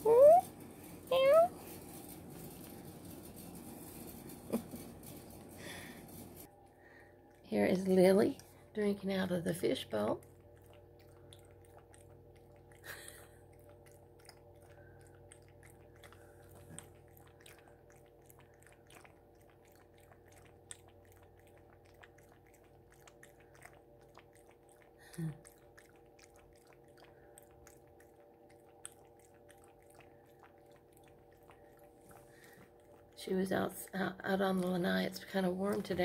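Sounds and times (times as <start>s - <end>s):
steady low hum: 0.0s - 36.0s
cat lapping water: 6.8s - 36.0s.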